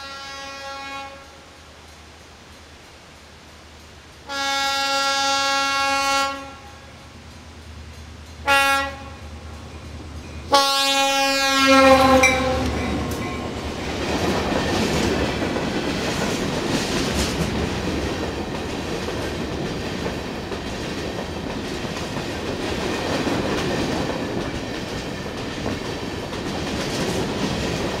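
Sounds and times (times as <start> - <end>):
freight train passing: 0.0 - 28.0
steel wheels rumbling on rail: 0.0 - 28.0.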